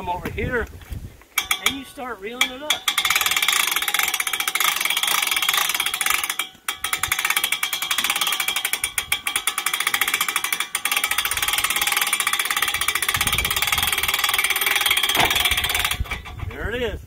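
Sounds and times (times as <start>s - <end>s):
ratchet winch clicking: 1.4s - 16.6s.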